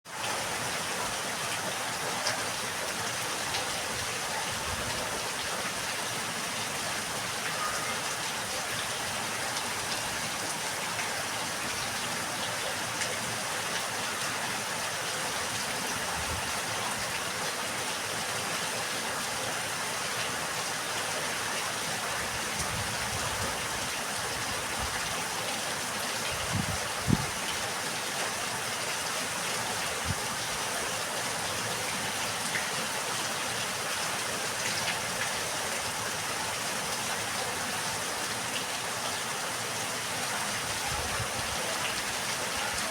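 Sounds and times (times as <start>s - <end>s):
steady rain falling: 0.1s - 42.9s.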